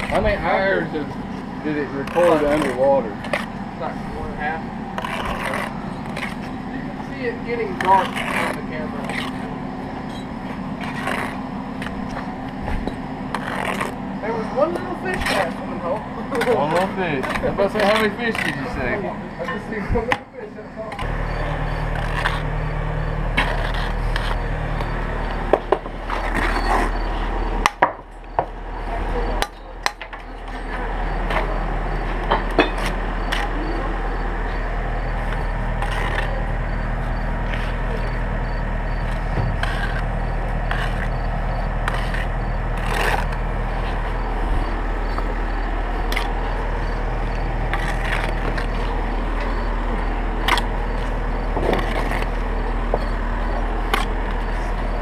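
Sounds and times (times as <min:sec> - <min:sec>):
trowel scraping mortar: 0:00.0 - 0:20.2, 0:20.9 - 0:27.4, 0:29.3 - 0:55.0
low engine hum: 0:00.0 - 0:55.0.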